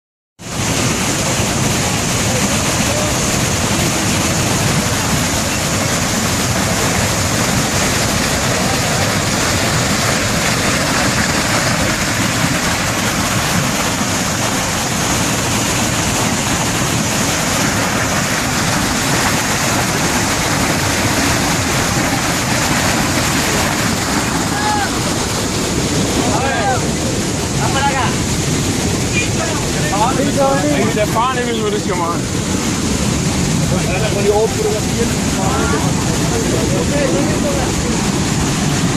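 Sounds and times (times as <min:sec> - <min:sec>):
waterfall rushing: 0:00.4 - 0:38.9.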